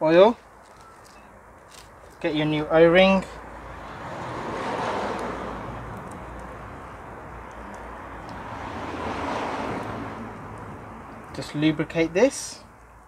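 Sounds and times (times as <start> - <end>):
vehicles passing on road: 0.0 - 13.0.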